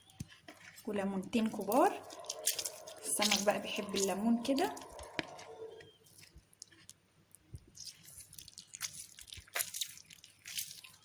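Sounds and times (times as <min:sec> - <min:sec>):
wet squelches: 0:00.0 - 0:11.0.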